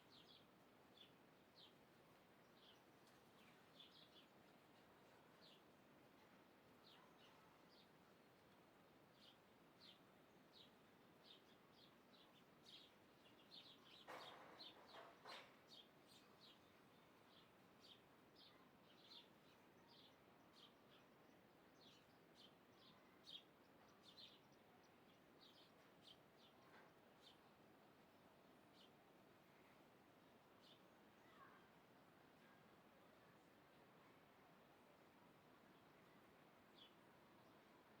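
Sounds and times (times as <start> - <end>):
faint birds chirping: 0.0 - 38.0.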